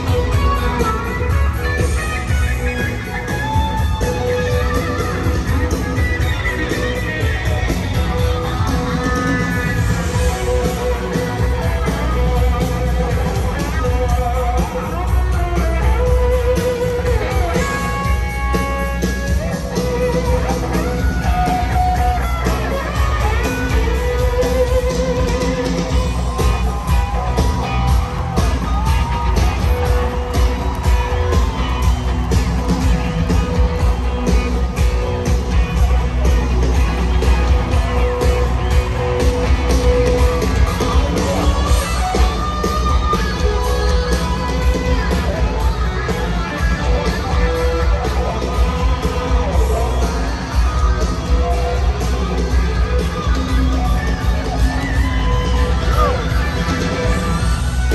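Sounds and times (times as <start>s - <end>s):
guitar: 0.0s - 57.9s
live rock band playing: 0.0s - 57.9s.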